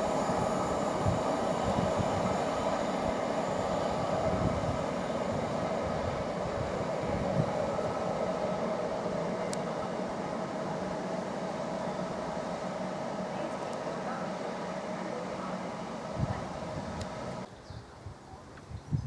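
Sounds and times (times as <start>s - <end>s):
train rumble and rail noise: 0.0s - 19.0s.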